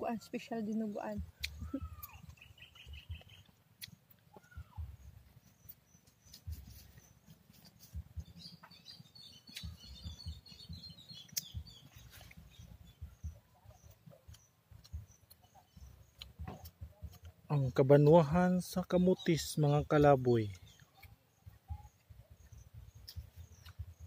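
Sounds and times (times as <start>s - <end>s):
birds twittering: 0.8s - 24.0s.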